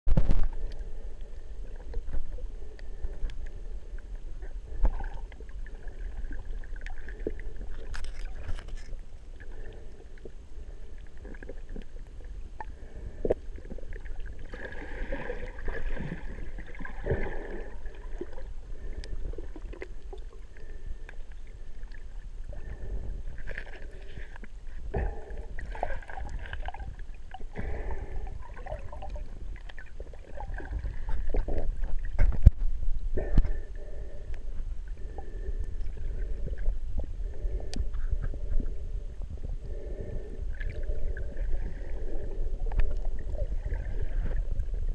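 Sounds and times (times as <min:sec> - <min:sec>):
underwater rumble of moving water: 0:00.1 - 0:44.9
water gurgles: 0:04.4 - 0:09.9, 0:10.6 - 0:34.1, 0:34.9 - 0:44.9.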